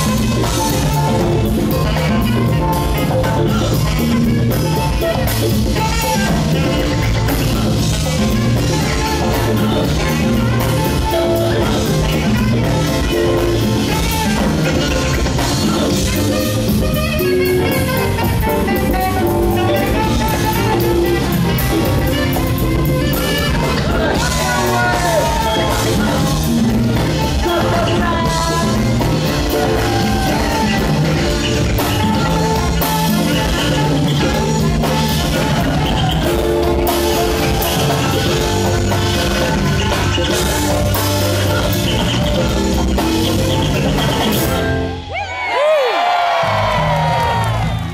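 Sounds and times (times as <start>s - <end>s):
live band playing upbeat groove: 0.0s - 47.9s.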